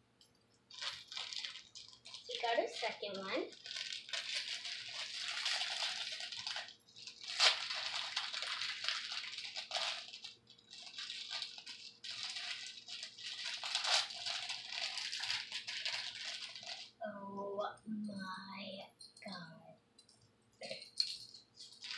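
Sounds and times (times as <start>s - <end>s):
plastic packet crinkling: 0.6s - 17.0s, 20.6s - 21.9s.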